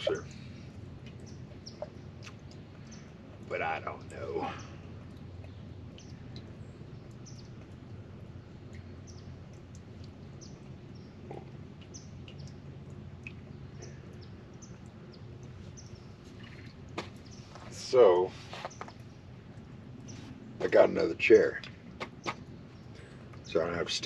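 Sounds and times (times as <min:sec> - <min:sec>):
faint low outdoor rumble: 0:00.0 - 0:24.0
wild birds chirping: 0:00.0 - 0:24.0.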